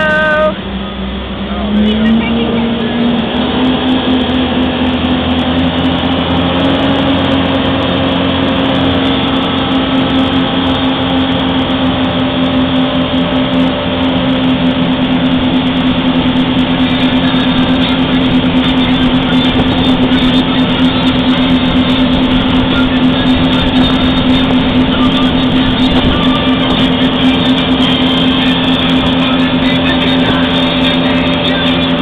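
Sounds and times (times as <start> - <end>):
motorboat engine humming: 0.0 - 32.0
water rushing: 0.0 - 32.0
wind: 0.0 - 32.0.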